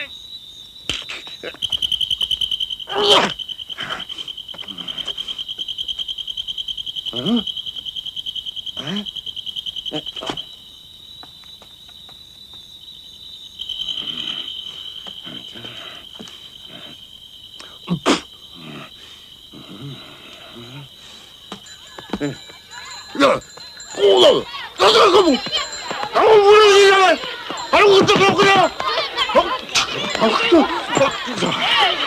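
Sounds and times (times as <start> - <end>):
cricket-like chirping trill: 0.0 - 32.0.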